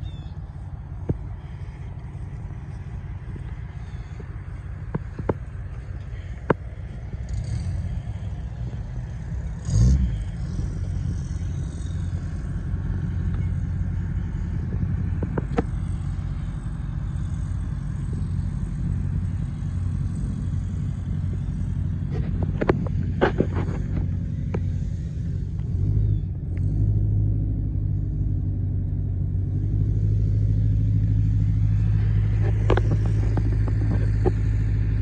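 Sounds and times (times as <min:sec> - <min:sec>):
tractor diesel engine idling: 0:00.0 - 0:35.0.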